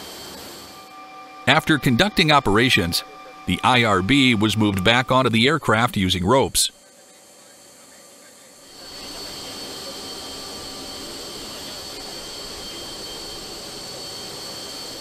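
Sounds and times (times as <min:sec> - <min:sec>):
aircraft turbine engines running: 0:00.0 - 0:06.7, 0:08.5 - 0:15.0
high engine whine: 0:00.0 - 0:06.7, 0:08.8 - 0:15.0.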